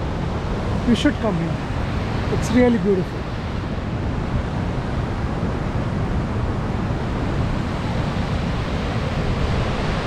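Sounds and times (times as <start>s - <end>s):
heavy water rushing at a dam: 0.0s - 10.0s.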